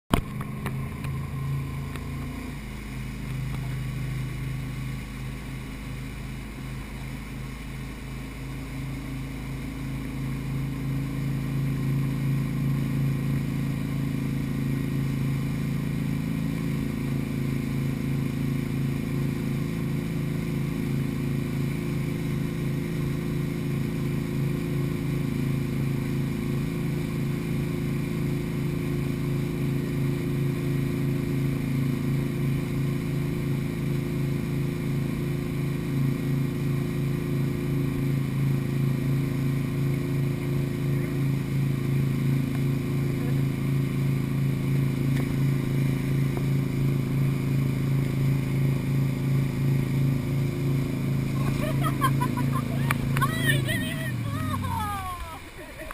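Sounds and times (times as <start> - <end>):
boat engine droning: 0.1 - 55.9.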